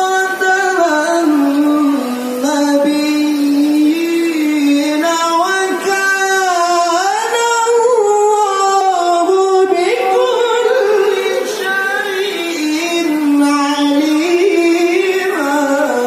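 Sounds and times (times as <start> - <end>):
man chanting melodically into microphone: 0.0 - 16.0.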